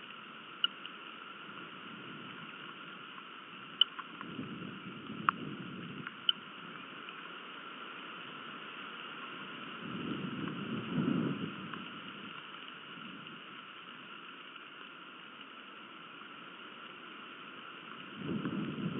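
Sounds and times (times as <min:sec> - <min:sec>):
rain hiss: 0:00.0 - 0:18.9
raindrops ticking on microphone: 0:00.0 - 0:18.9.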